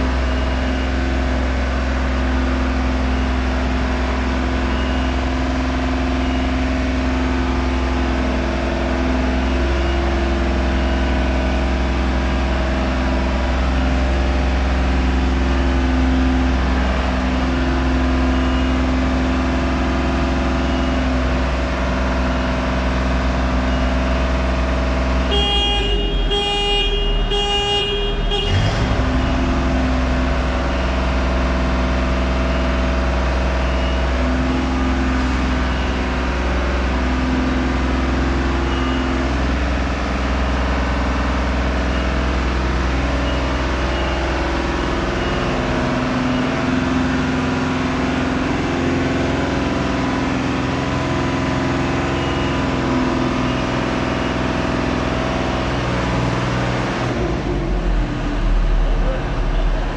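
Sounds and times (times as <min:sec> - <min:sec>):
pulsing alarm beeps: 0:00.0 - 0:56.4
construction machinery drone: 0:00.0 - 0:59.9.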